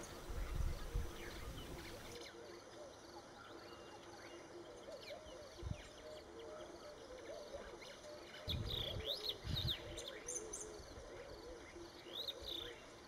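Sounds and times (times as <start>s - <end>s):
birdsong chorus: 0.0s - 13.0s.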